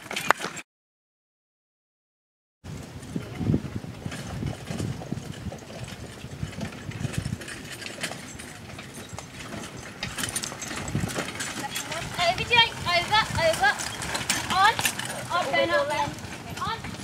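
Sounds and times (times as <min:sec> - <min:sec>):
carriage and harness rattling: 0:00.0 - 0:00.6, 0:04.0 - 0:17.0.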